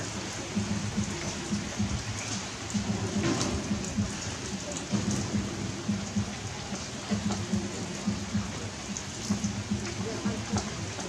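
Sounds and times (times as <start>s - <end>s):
loud close raindrop hits: 0.0s - 11.0s
rain falling steadily: 0.0s - 11.0s.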